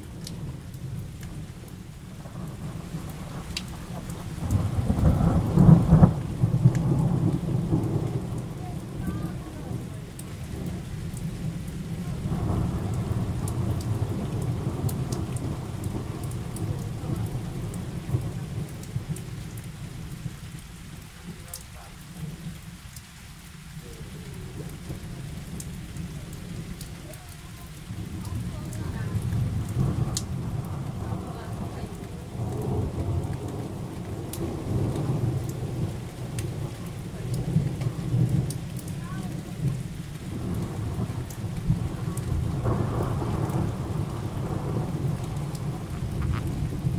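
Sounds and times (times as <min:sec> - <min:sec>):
thunder rumbling: 0:00.0 - 0:22.7, 0:23.8 - 0:46.9
rain falling: 0:00.0 - 0:46.9.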